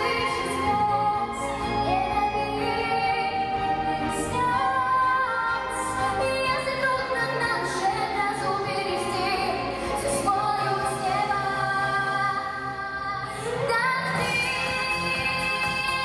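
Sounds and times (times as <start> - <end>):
musical accompaniment: 0.0 - 16.0
woman singing: 0.0 - 16.0.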